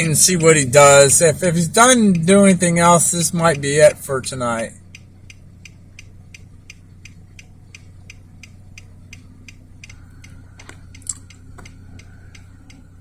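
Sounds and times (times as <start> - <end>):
low steady hum: 0.0 - 13.0
steady ticking: 0.0 - 13.0.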